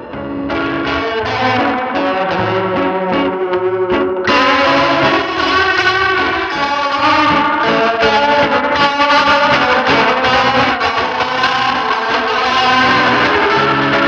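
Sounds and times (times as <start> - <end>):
distorted electric guitar: 0.0 - 14.0
stepping bass line: 0.0 - 14.0.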